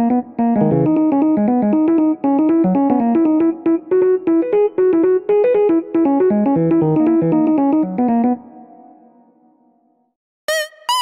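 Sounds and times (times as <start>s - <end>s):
keyboard melody: 0.0s - 9.9s.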